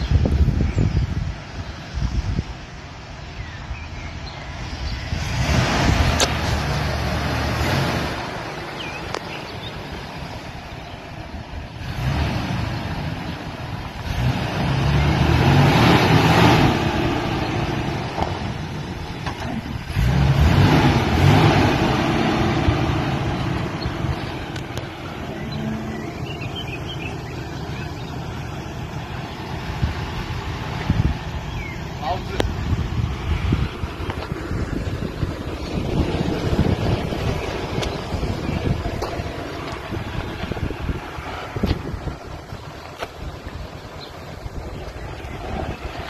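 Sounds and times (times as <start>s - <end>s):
engine running and revving: 0.0s - 46.0s.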